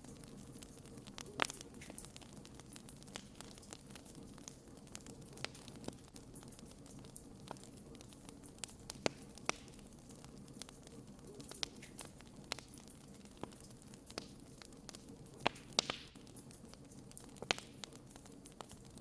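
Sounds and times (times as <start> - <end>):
bonfire crackling: 0.0 - 19.0
burning logs snapping and popping: 0.0 - 19.0.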